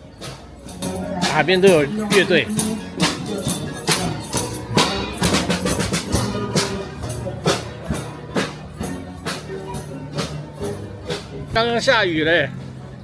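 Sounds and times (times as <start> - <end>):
live band playing: 0.0 - 13.0
percussion beat: 0.0 - 13.0.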